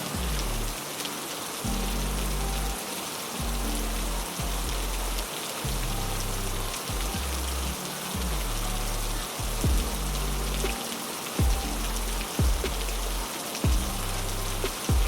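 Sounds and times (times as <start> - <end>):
heavy rain hissing: 0.0 - 15.0
low held music notes: 0.0 - 15.0.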